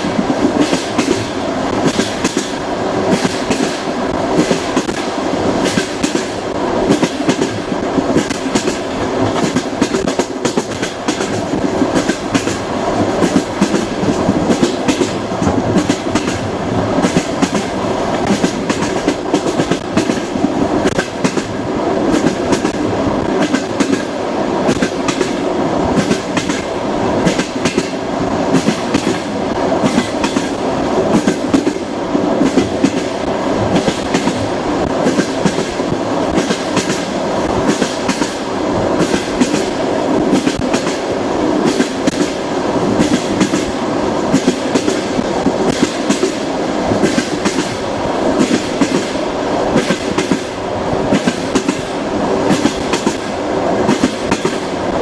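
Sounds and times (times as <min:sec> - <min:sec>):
train wheels clattering over rail joints: 0:00.0 - 0:31.8, 0:32.4 - 0:41.0, 0:41.6 - 0:54.7
train rolling rumble: 0:00.0 - 0:55.0.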